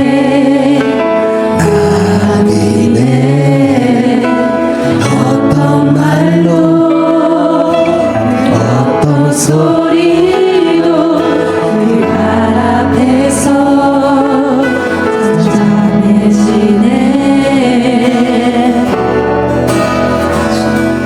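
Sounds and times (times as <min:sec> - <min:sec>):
instrumental accompaniment: 0:00.0 - 0:21.0
person singing slow melody: 0:00.0 - 0:21.0.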